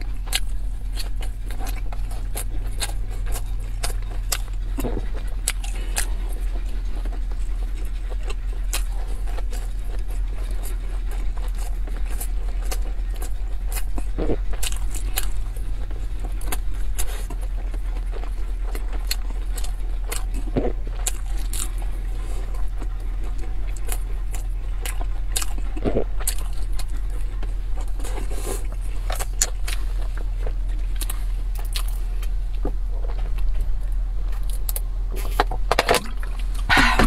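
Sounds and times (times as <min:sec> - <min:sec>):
person chewing: 0:00.0 - 0:37.0
steady low hum: 0:00.0 - 0:37.0.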